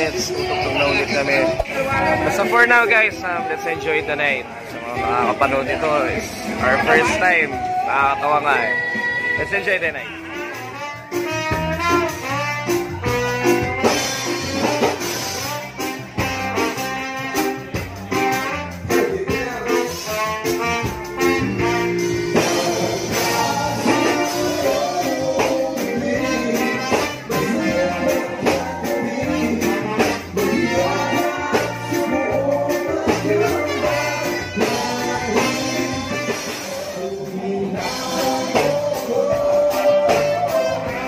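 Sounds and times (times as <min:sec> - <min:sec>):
live horn band playing: 0:00.0 - 0:41.0.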